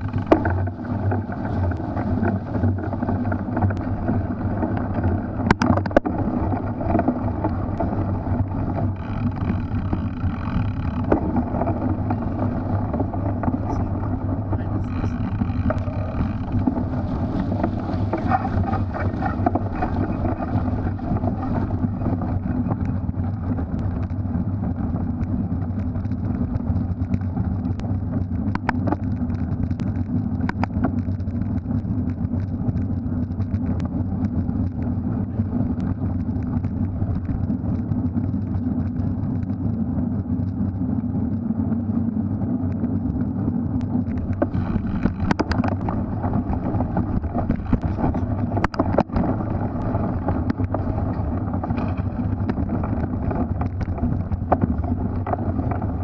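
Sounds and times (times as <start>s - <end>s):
bike clicks and rattles: 0.0s - 56.0s
bike rumbling over mud: 0.0s - 56.0s
wind on microphone: 0.0s - 56.0s.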